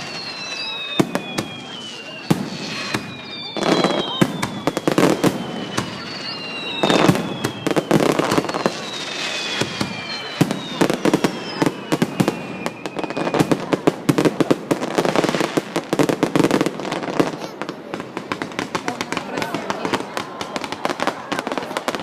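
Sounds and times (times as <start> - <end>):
firework whistles gliding down: 0.0 - 17.6, 18.7 - 22.0
fireworks bangs and crackling: 0.0 - 22.0.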